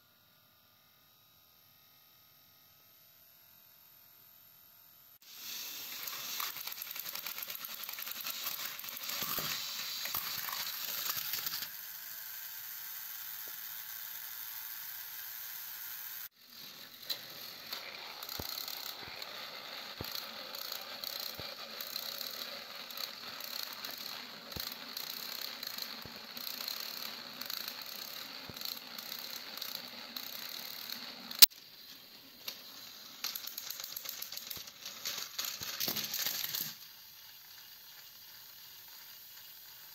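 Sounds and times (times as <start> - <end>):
toy train motors whirring: 5.2 - 39.9
wheels clicking over plastic track: 5.3 - 39.9.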